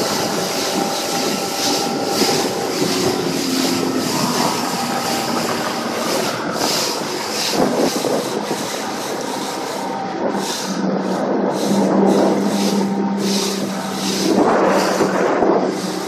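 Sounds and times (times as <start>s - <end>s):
boat motor hum: 0.0s - 16.0s
hull slapping through waves: 0.0s - 16.0s
wind on microphone: 0.0s - 16.0s.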